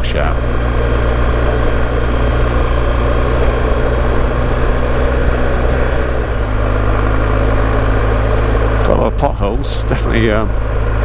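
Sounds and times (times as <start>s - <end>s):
motorcycle engine running: 0.0s - 11.0s
tyres on gravel: 0.0s - 11.0s.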